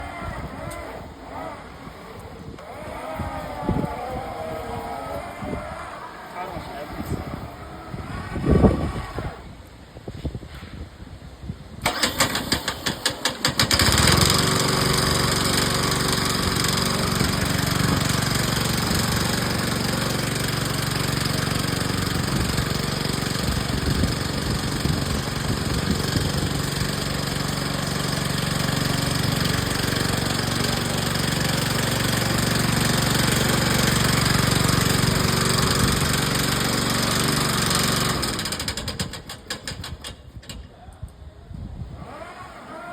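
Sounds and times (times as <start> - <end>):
lawn mower engine starting: 0.0 - 9.9, 11.7 - 40.7, 41.8 - 42.9.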